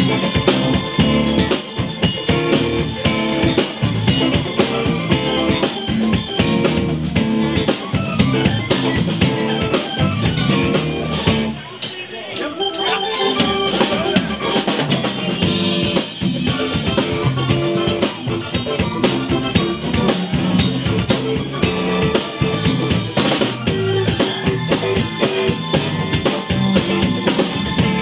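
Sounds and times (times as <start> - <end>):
live blues band playing: 0.0 - 28.0.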